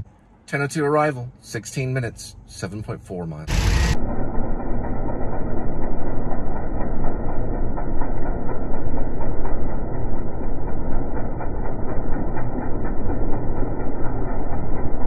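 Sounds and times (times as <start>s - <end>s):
vehicle running noise: 2.2s - 15.0s.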